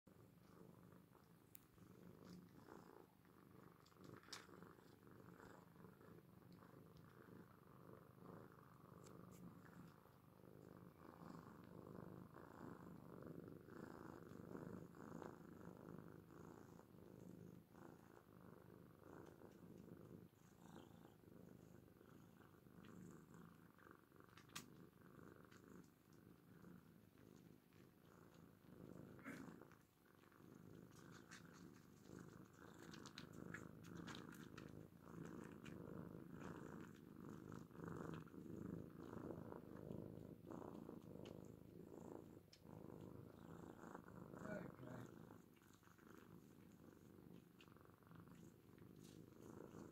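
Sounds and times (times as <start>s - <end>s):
cats purring: 0.0s - 49.9s.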